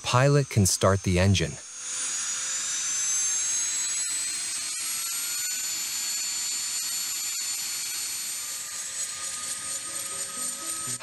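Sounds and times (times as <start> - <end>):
turbine engine whine rising: 0.0 - 11.0.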